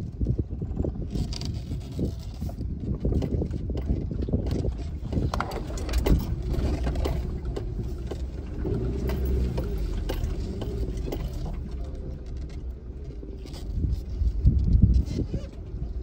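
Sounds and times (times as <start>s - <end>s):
knocks and rattles: 0.0s - 15.2s
car driving rumble: 2.4s - 16.0s.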